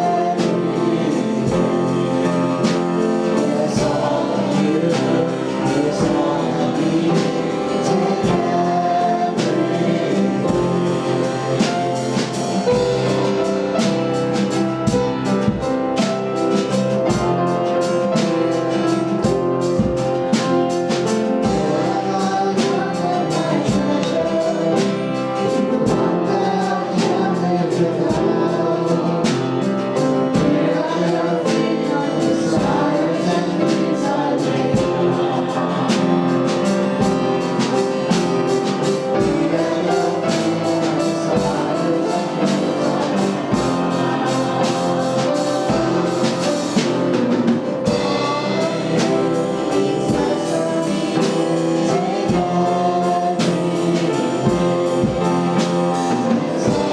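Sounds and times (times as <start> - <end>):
drum beat: 0.0 - 56.9
voices singing with a band: 0.0 - 56.9.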